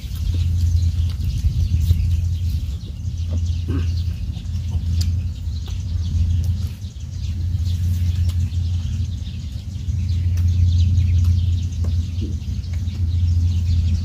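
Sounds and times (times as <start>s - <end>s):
loud low rumble: 0.0s - 14.0s
small birds chirping: 0.0s - 14.0s.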